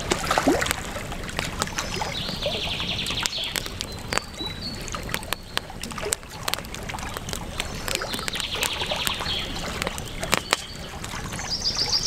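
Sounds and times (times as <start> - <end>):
campfire crackling and popping: 0.0 - 12.0
river water rushing: 0.0 - 12.0.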